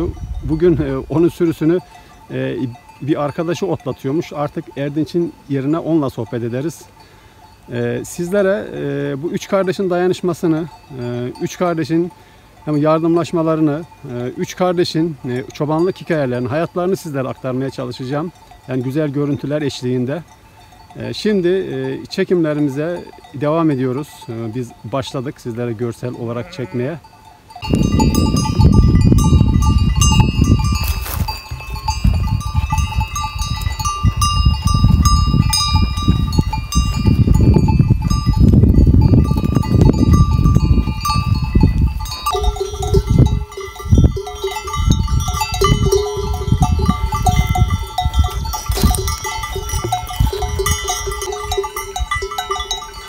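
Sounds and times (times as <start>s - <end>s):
animal bells clanking: 0.0s - 53.0s.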